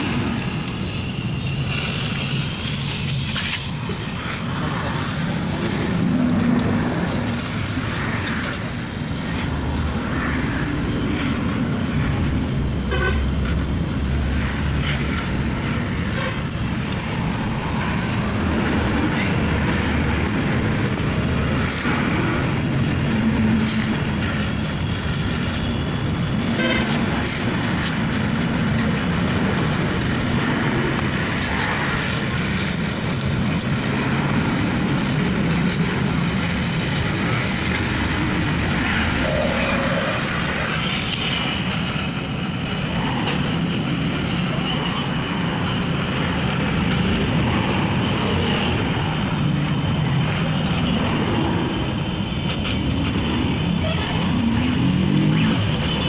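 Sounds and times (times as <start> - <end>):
street traffic: 0.0 - 56.0
torch flame hissing: 0.0 - 56.0.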